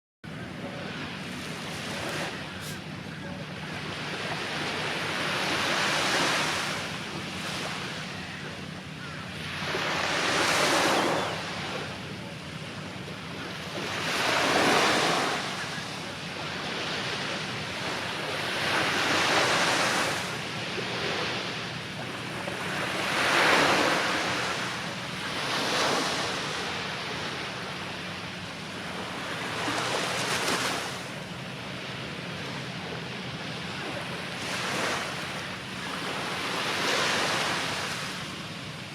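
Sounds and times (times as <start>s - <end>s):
sea waves breaking on beach: 0.4s - 38.9s.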